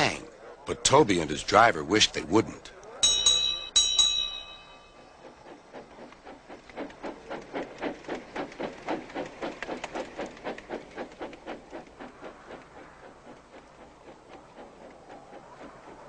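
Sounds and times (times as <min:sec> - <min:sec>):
steam engine chuffing: 0:00.0 - 0:16.0.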